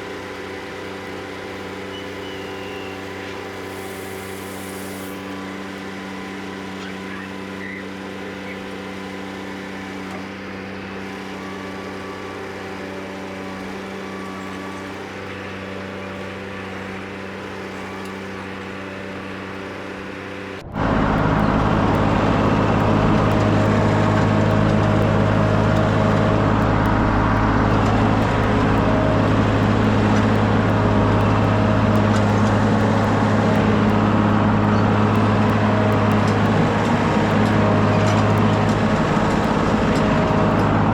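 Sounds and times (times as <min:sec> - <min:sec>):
skid steer engine running: 0:00.0 - 0:40.9.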